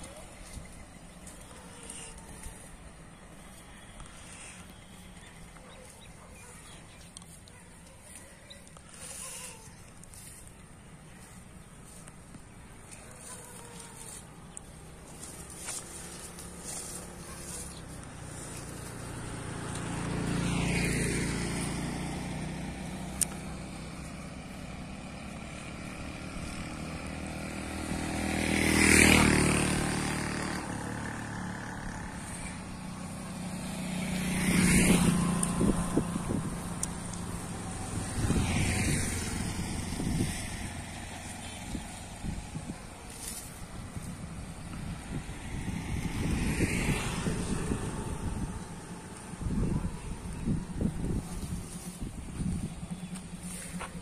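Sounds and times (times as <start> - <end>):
vehicles passing by: 0.0 - 54.0.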